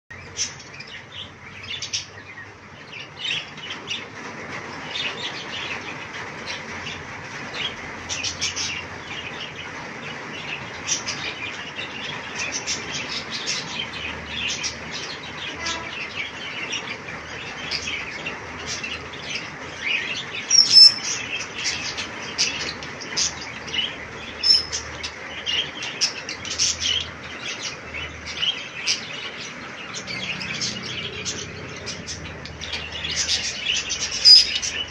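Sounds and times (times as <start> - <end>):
budgerigars chirping: 4.8 - 34.9.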